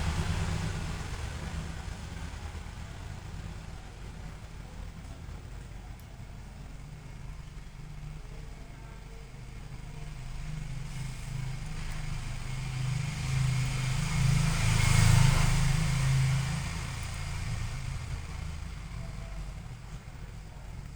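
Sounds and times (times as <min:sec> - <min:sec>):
vehicle engine approaching: 0:00.0 - 0:20.9.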